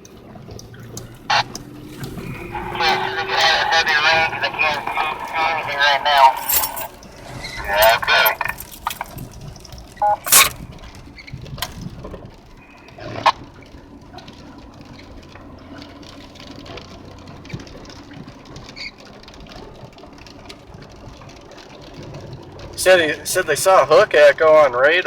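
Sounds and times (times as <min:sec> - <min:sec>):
heavy rain pattering on car: 0:00.0 - 0:06.3, 0:09.2 - 0:25.0
engine and road hum: 0:00.0 - 0:25.0.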